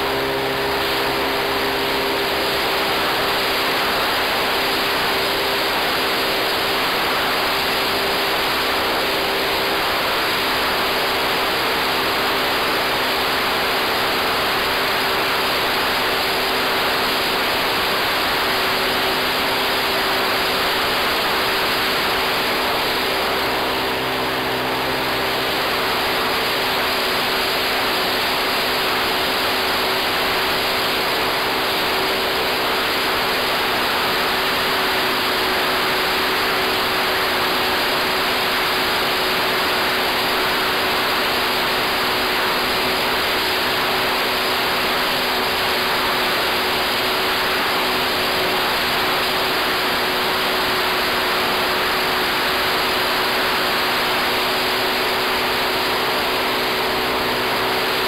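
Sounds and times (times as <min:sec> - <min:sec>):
airflow and propeller noise: 0:00.0 - 0:58.0
model plane motor hum: 0:00.0 - 0:58.0.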